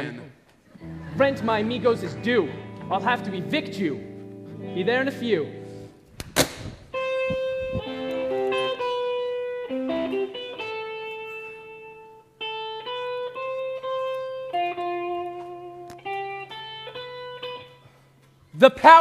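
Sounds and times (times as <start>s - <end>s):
electric guitar slow melody: 0.8s - 18.4s.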